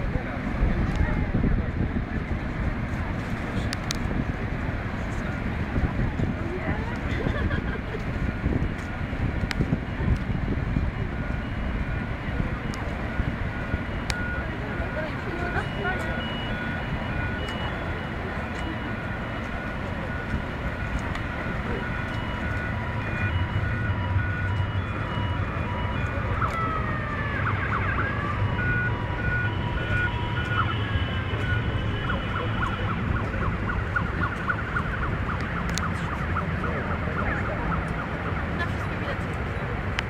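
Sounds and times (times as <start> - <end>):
emergency vehicle siren: 0.0 - 40.0
low rumble of wind: 0.0 - 40.0.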